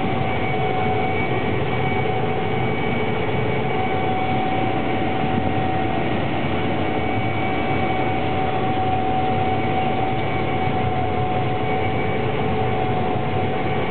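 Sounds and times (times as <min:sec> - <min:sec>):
combine harvester drone: 0:00.0 - 0:13.9
constant machine whine: 0:00.0 - 0:13.9.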